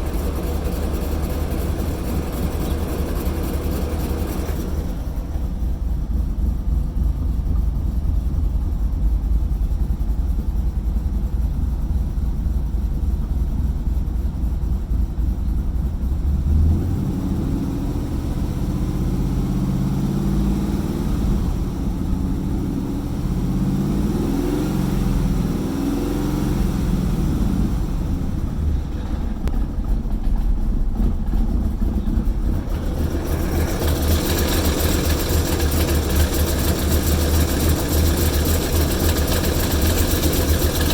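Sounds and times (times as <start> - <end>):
engine idling roughly: 0.0 - 40.9.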